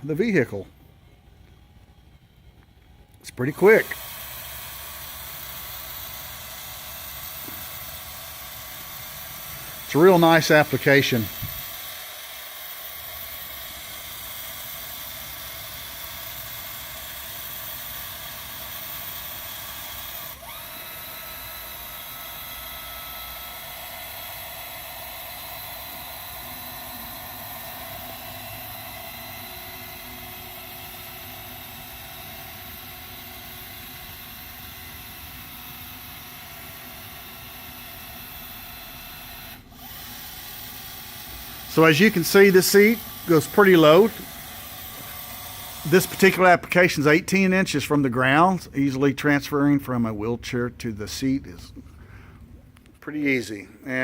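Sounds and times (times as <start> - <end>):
electric motor whining: 0.0 - 47.2.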